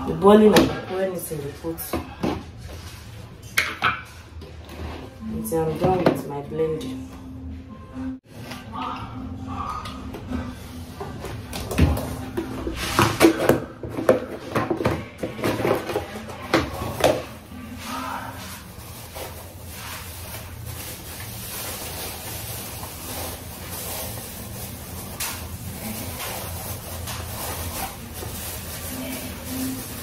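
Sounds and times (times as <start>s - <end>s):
faint music: 0.0s - 30.0s.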